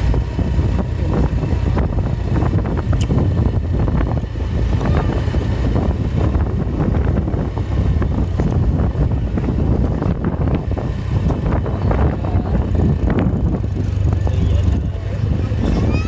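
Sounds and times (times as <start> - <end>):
low vehicle rumble: 0.0 - 16.0
wind buffeting microphone: 0.0 - 16.0.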